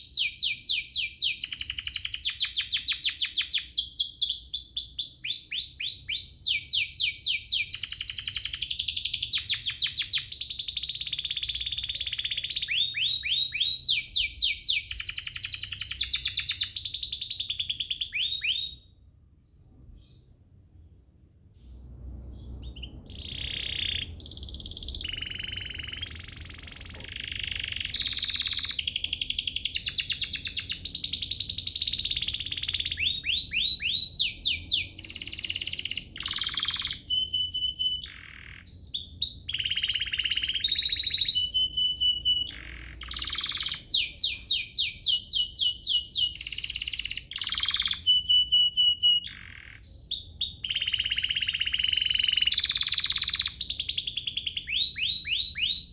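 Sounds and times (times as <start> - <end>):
canary singing: 0.0 - 19.0, 22.3 - 55.9.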